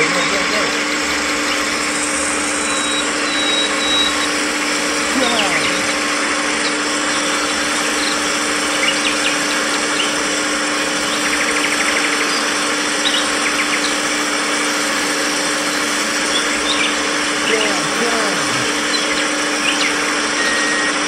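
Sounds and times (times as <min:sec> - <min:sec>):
small electric motor whining: 0:00.0 - 0:21.0.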